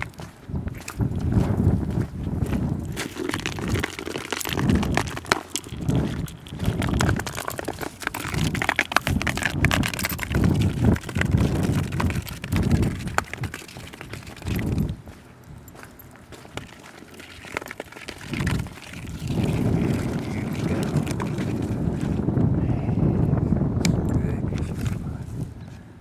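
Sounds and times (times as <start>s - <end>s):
footsteps crunching underfoot: 0.0s - 22.4s.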